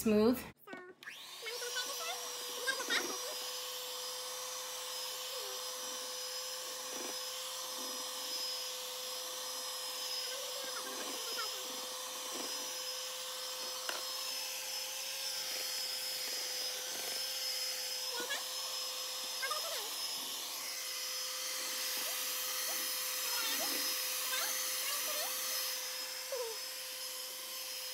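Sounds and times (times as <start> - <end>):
electric hand mixer whirring: 0.7 - 27.9.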